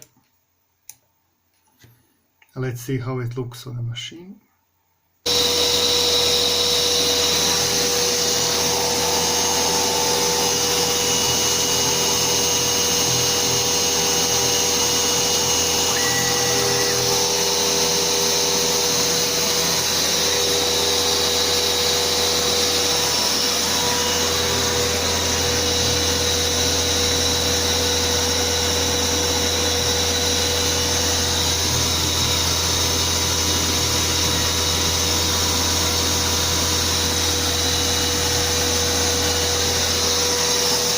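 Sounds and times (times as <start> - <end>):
vacuum rushing noise: 5.3 - 40.6
router spindle whine: 5.3 - 40.9.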